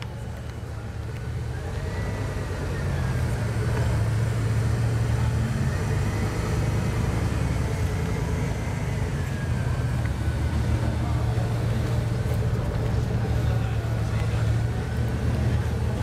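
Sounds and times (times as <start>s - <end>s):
car engine rumbling at low revs: 0.0s - 16.0s.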